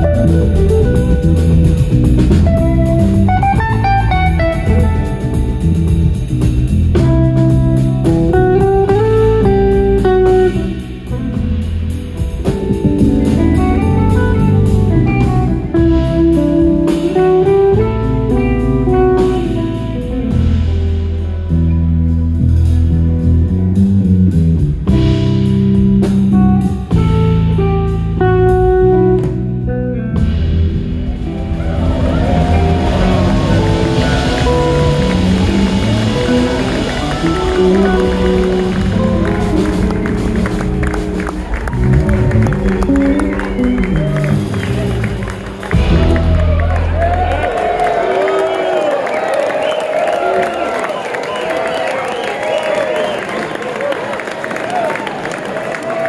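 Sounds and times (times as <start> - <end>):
electric guitar melody: 0.0 - 48.0
electric bass: 0.0 - 48.2
drum kit: 0.0 - 53.0.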